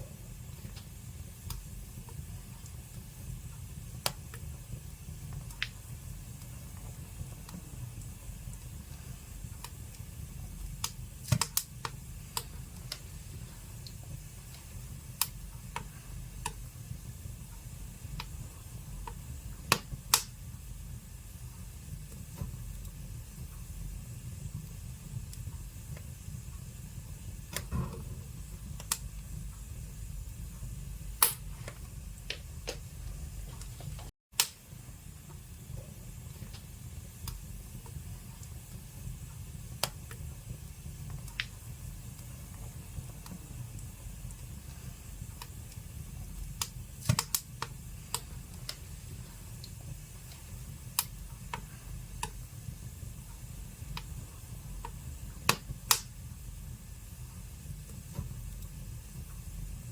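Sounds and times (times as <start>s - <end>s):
low rumble of burning fire: 0.0s - 59.9s
wood fire crackling and popping: 0.0s - 59.9s.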